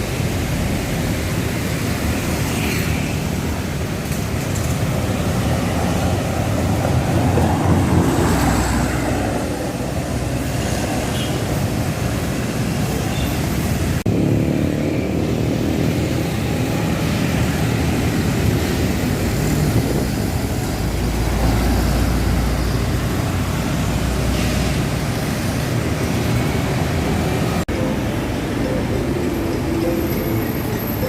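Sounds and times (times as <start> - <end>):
street traffic passing: 0.0 - 31.0.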